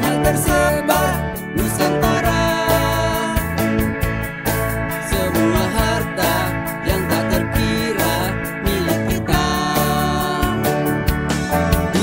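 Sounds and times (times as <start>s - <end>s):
man singing: 0.0s - 3.9s, 4.9s - 11.0s
drum kit beat: 0.0s - 12.0s
electric guitar: 0.0s - 12.0s
keyboard: 0.0s - 12.0s.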